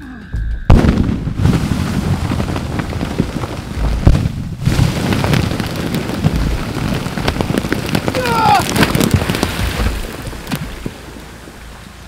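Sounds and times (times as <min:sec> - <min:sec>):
explosion in wet mud: 0:00.7 - 0:11.1
debris showering down: 0:00.7 - 0:11.4.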